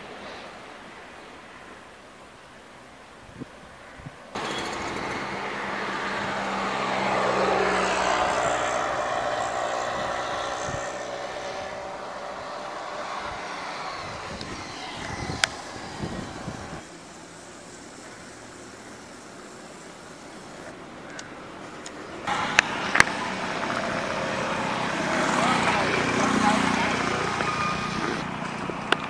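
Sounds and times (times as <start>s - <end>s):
vehicle passing on road: 4.3s - 29.0s.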